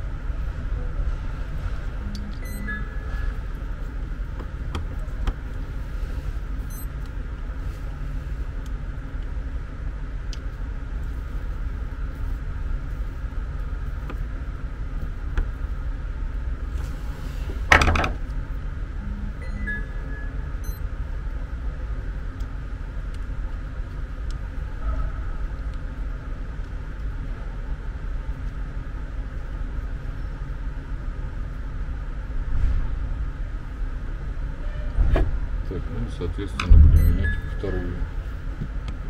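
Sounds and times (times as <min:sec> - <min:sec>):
low rumble: 0:00.0 - 0:39.0.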